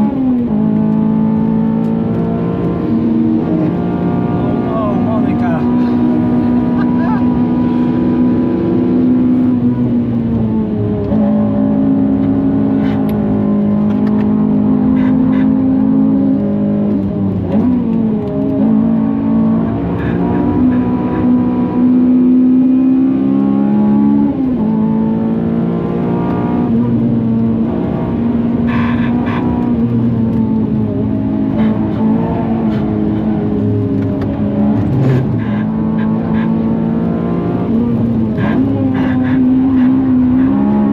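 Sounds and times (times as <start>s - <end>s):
car engine at high revs: 0.0s - 40.9s.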